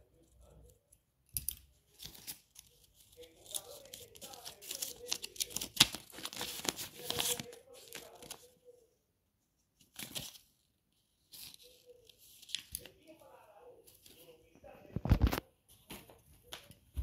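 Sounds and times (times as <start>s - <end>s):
paper pages rustling: 1.4s - 8.7s, 9.8s - 17.0s.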